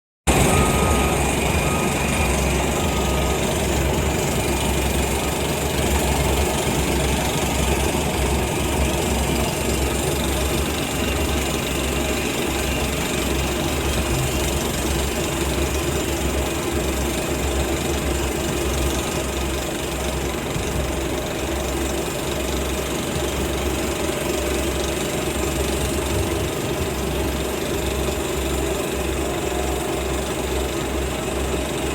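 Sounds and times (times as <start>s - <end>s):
drill rig engine drone: 0.3s - 31.9s.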